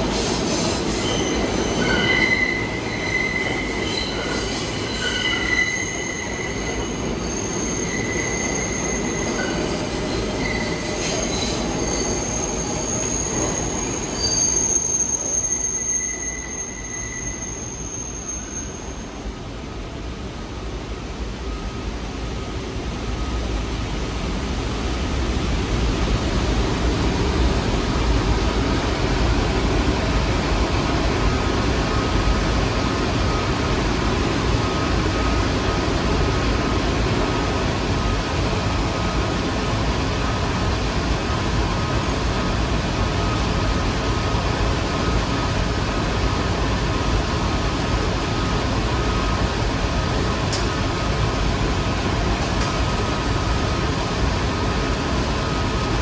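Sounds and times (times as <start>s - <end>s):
subway train noise: 0.0s - 56.0s.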